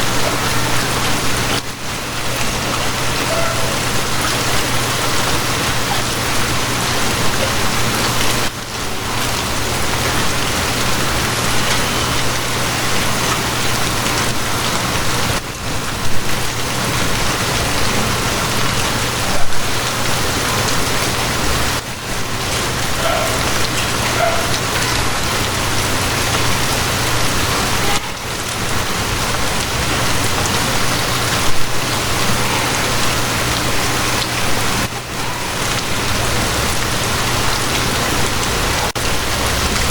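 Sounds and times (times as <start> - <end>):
rain patters: 0.0 - 39.9
steady rain hiss: 0.0 - 39.9.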